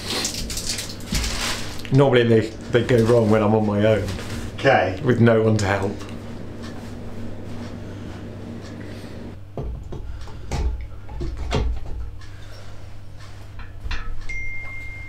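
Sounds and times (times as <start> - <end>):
steady low hum: 0.2 - 15.0.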